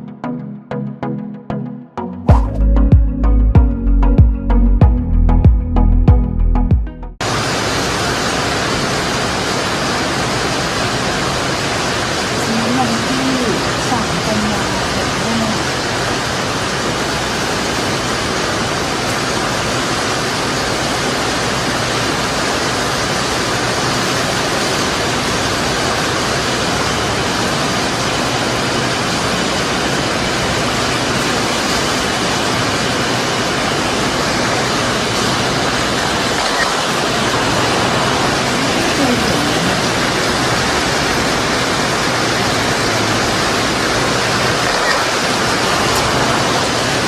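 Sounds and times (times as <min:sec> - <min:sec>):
rain: 0:07.2 - 0:47.0
wind: 0:07.2 - 0:47.0.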